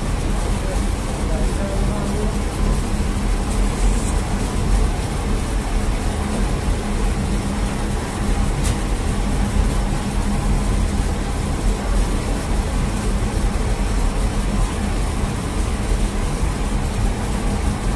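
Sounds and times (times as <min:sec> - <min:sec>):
bakery machinery drone: 0:00.0 - 0:17.9.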